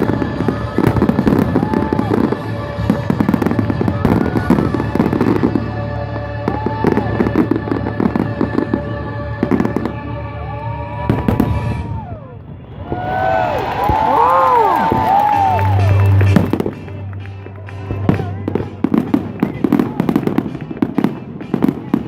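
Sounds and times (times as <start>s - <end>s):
background music: 0.0s - 22.0s
fireworks bangs and crackles: 0.0s - 22.0s.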